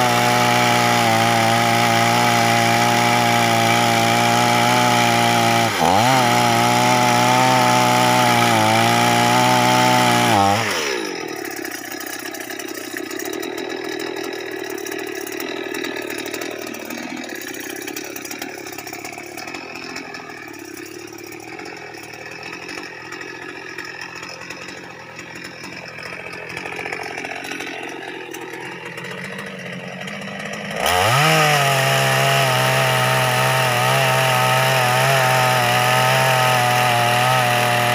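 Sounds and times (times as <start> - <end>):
chainsaw cutting log: 0.0 - 37.9.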